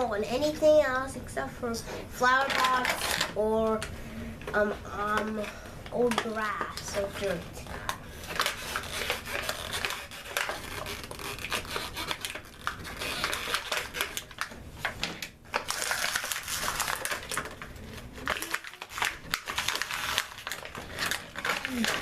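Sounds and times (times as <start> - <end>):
packaging crinkling and clicking: 2.4 - 3.9, 5.2 - 22.0.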